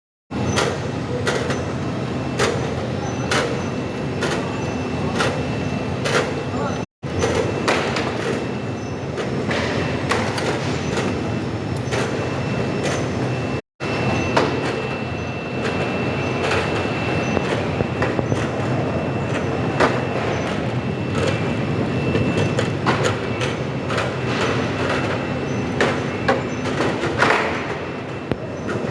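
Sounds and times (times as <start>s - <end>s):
machine line humming: 0.3s - 28.9s.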